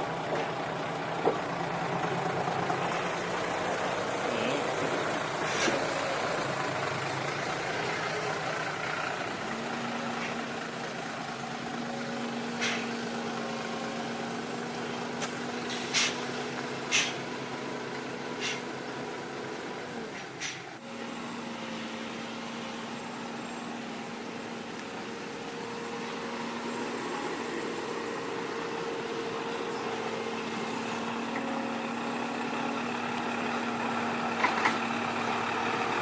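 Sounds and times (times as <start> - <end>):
diesel engine of heavy machinery: 0.0 - 36.0.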